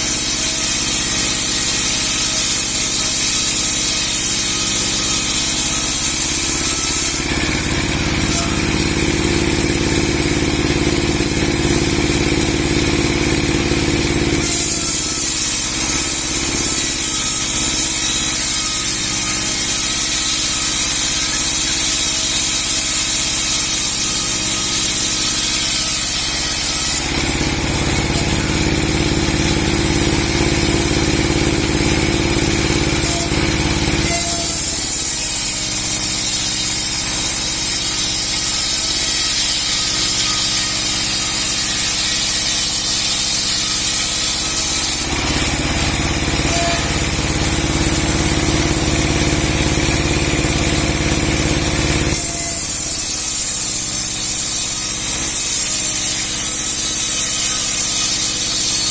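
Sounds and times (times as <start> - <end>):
sawmill blade sawing log: 0.0 - 58.9.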